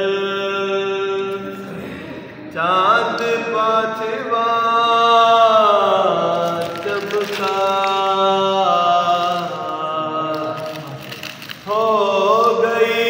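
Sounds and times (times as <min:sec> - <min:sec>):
person chanting devotional song: 0:00.0 - 0:13.0.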